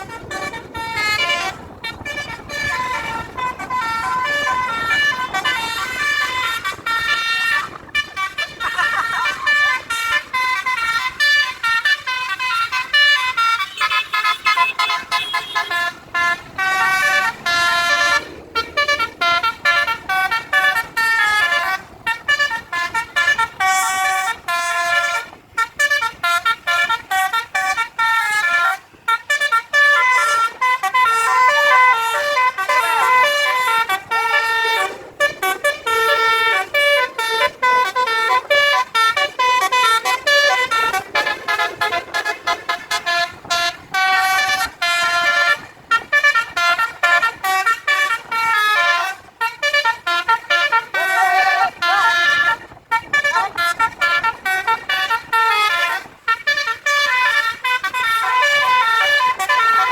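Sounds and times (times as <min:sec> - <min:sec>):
bus multi-tone horns playing tunes: 0:00.0 - 0:59.9.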